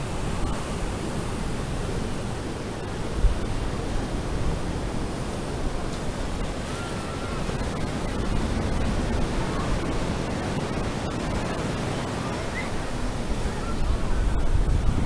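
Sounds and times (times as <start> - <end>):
surf waves breaking on beach: 0.0 - 15.0
wind buffeting microphone: 0.0 - 15.0.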